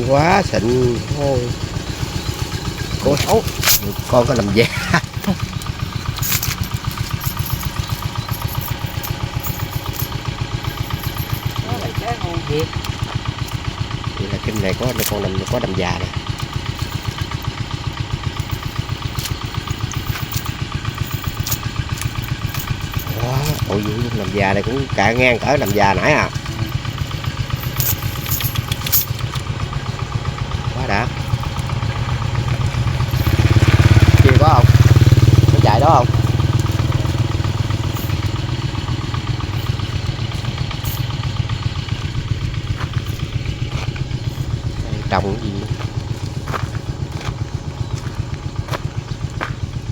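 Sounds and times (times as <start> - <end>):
small boat engine running: 0.0 - 49.9.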